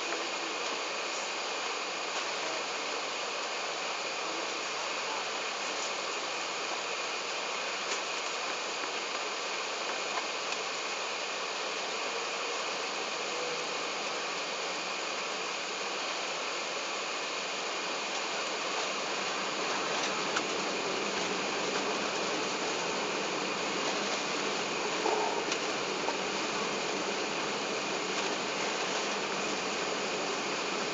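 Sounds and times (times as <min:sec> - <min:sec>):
cabin air supply hiss: 0:00.0 - 0:30.9
jet engines at low power: 0:00.0 - 0:30.9.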